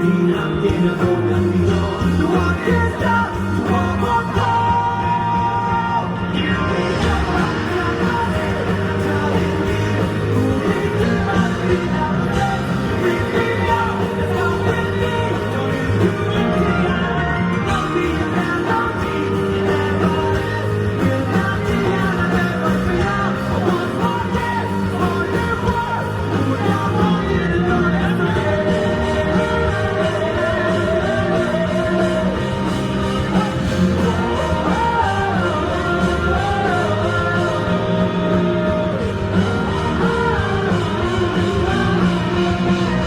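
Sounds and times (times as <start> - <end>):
male lead vocal: 0.0 - 43.0
rock band playing: 0.0 - 43.0.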